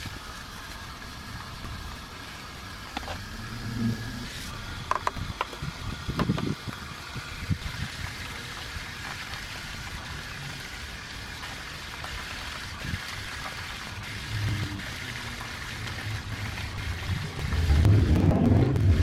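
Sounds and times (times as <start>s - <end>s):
wet brush scrubbing wheel: 0.0s - 19.0s.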